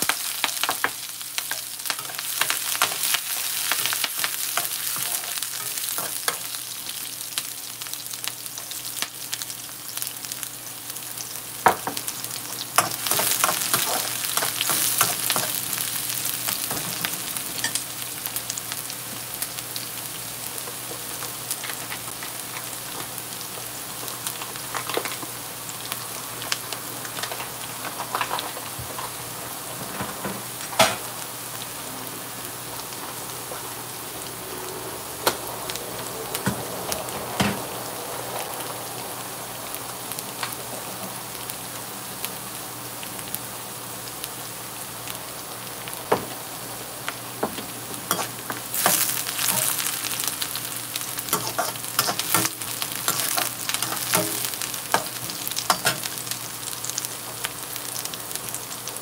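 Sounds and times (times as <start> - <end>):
onions sizzling in hot oil: 0.0 - 59.0.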